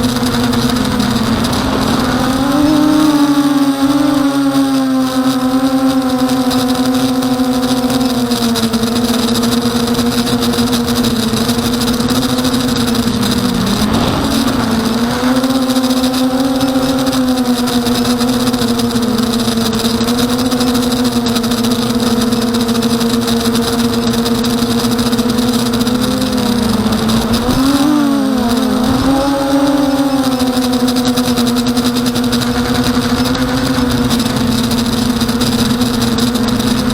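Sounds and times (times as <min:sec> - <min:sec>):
drone motors and propellers buzzing: 0:00.0 - 0:36.9.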